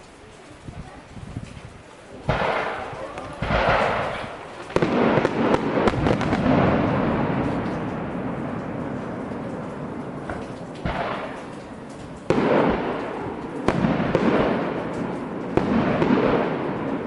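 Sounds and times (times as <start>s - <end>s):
fireworks crackling: 0.0s - 17.0s
fireworks bursting: 2.2s - 17.0s.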